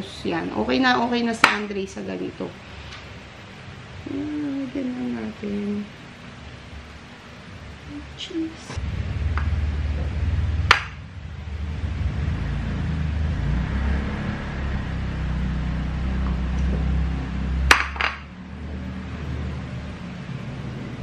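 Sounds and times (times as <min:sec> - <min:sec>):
low hum: 0:02.2 - 0:21.0.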